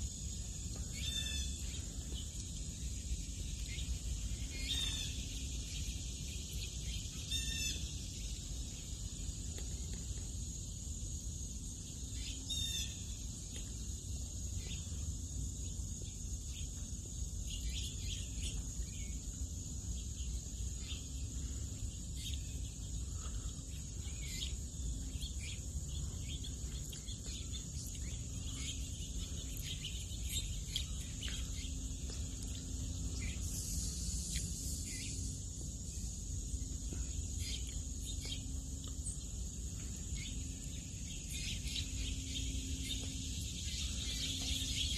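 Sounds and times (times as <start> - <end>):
high insect drone: 0.0 - 44.9
bird chirps: 0.7 - 9.0, 14.5 - 35.4, 36.8 - 44.9.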